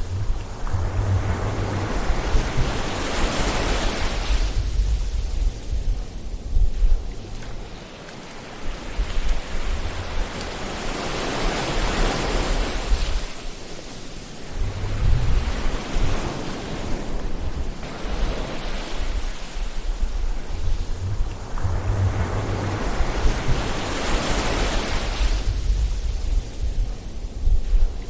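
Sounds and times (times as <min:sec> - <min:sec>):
ocean waves washing on shore: 0:00.0 - 0:28.0.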